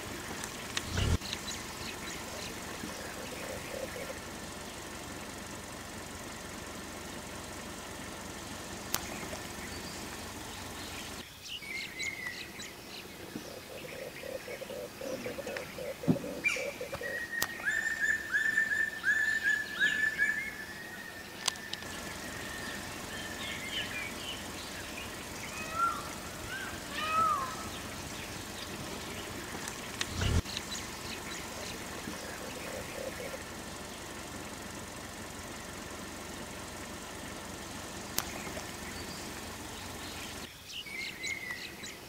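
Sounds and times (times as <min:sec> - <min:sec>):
birds calling and chirping: 0:00.0 - 0:42.0.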